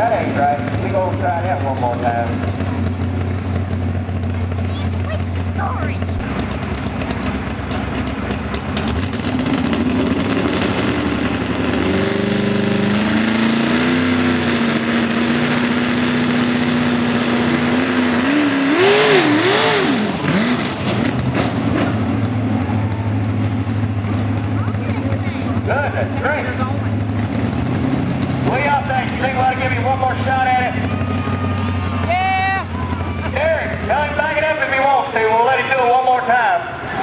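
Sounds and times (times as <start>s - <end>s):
truck engine revving at full throttle: 0.0s - 37.0s.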